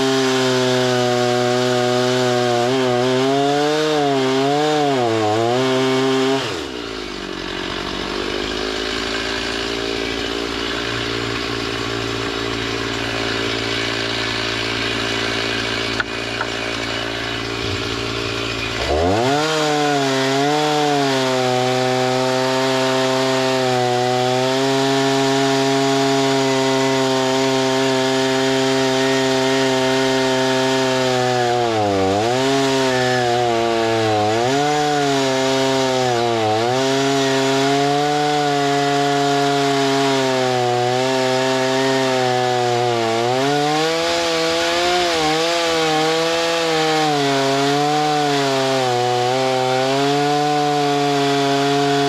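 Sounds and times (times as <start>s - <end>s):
chainsaw engine revving: 0.0s - 52.0s.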